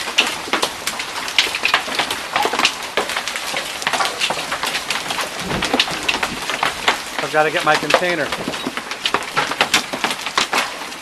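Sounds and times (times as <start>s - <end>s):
hailstones clattering: 0.0s - 11.0s
rain hiss: 0.0s - 11.0s.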